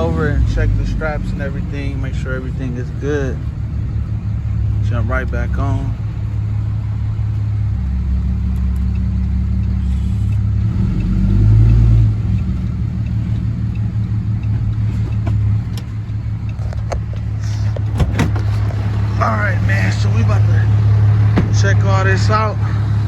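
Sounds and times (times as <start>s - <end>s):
truck engine and road noise drone: 0.0s - 23.0s.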